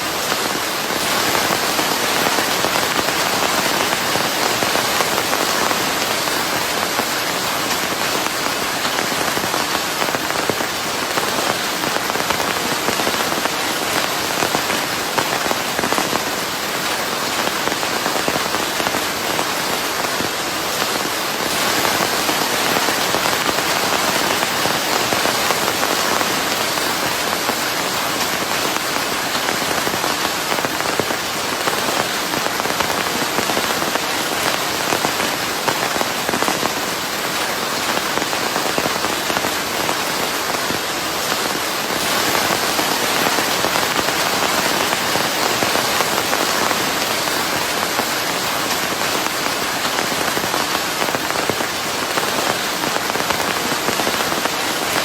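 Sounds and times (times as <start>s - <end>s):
dense rain falling: 0.0s - 55.0s.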